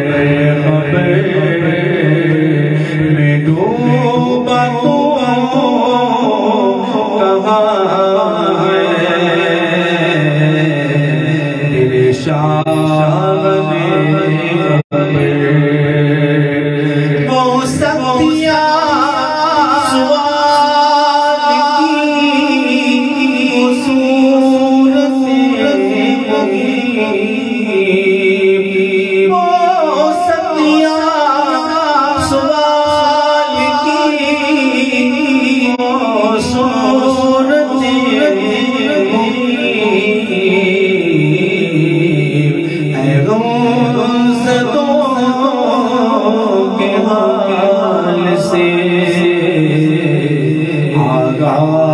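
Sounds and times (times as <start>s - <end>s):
man singing into a microphone: 0.0s - 51.9s.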